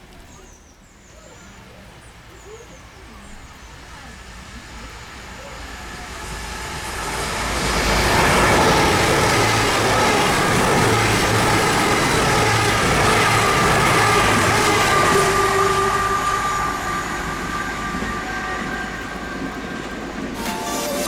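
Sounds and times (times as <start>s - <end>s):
diesel train passing: 1.6s - 21.0s.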